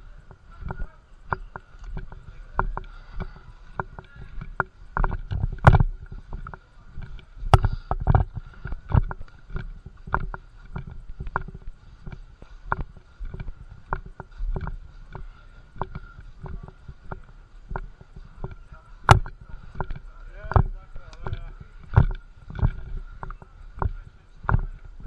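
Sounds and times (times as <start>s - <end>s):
footsteps: 0.0s - 25.0s
gear knocking against camera: 0.0s - 25.0s.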